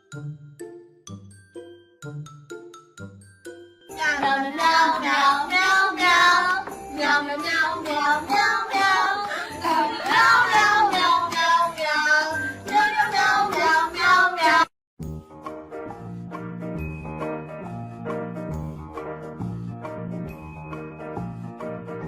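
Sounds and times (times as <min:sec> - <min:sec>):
music: 0:00.0 - 0:22.0.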